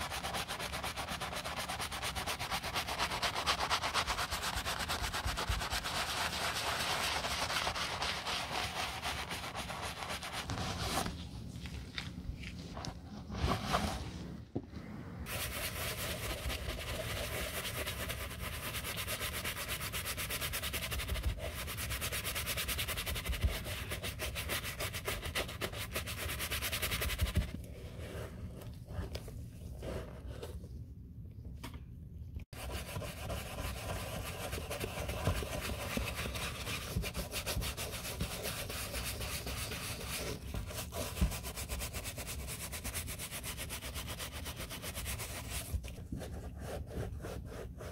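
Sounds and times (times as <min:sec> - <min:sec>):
bristle brush scrubbing: 0:00.0 - 0:11.1, 0:15.3 - 0:29.0, 0:32.6 - 0:47.9.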